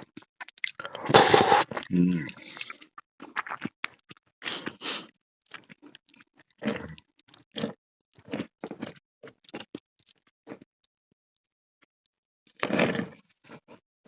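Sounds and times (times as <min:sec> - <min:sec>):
chewing and biting food: 0:00.0 - 0:10.7, 0:12.5 - 0:13.8.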